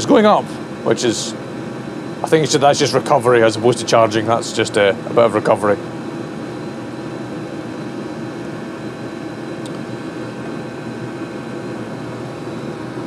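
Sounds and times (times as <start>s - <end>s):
diesel air heater rushing hum: 0.0s - 13.0s.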